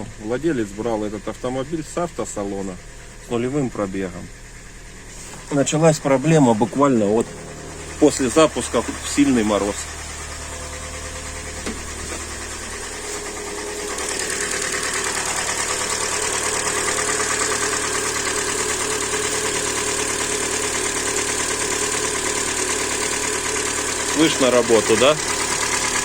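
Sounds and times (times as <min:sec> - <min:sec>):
car engine idling with rhythmic knock: 0:00.0 - 0:26.0.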